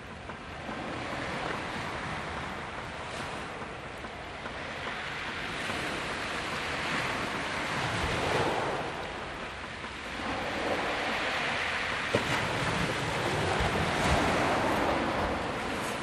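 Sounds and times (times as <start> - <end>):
waves breaking on a beach: 0.0 - 16.0.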